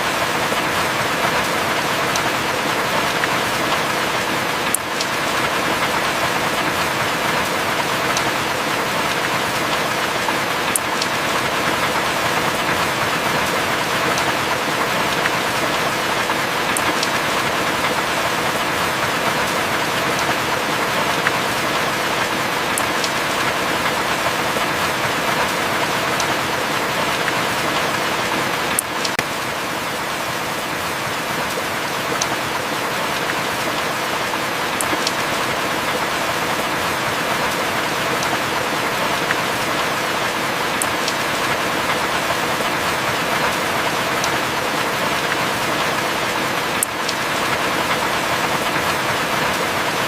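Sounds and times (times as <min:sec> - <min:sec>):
heavy rain hissing: 0:00.0 - 0:50.0
raindrop ticks: 0:00.2 - 0:29.3, 0:31.4 - 0:39.6, 0:40.3 - 0:49.9.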